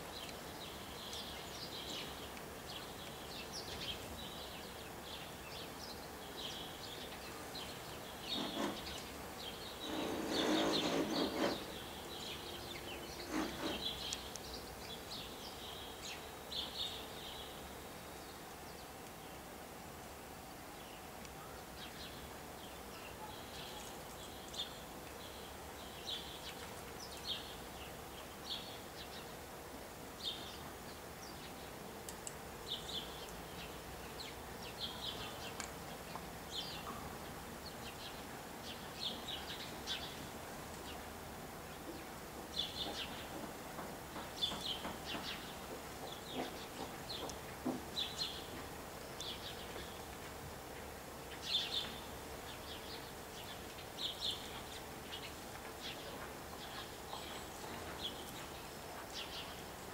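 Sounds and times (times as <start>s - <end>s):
sparrows chirping: 0.0s - 19.5s, 20.8s - 29.5s, 30.2s - 41.1s, 41.7s - 59.9s.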